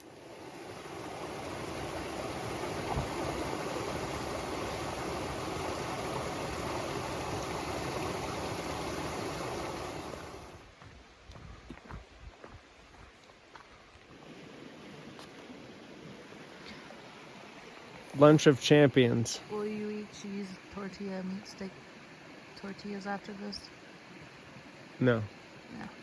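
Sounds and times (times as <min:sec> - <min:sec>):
mountain stream flowing: 0:00.0 - 0:11.2, 0:12.7 - 0:26.0.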